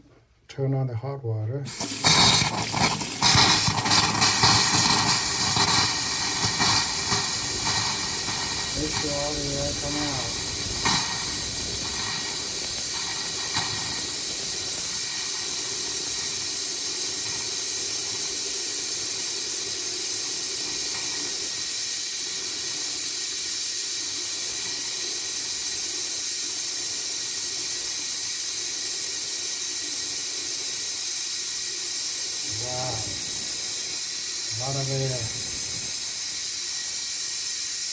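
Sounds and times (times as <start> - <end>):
tap running with rushing hiss: 1.6 - 37.9.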